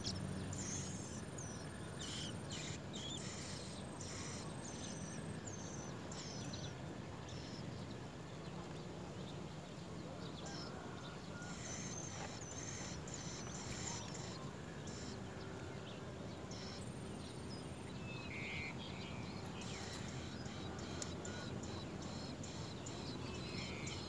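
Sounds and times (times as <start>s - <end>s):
nestlings begging chirps: 0.0s - 8.0s, 10.4s - 24.0s
steady low hum: 0.0s - 24.0s.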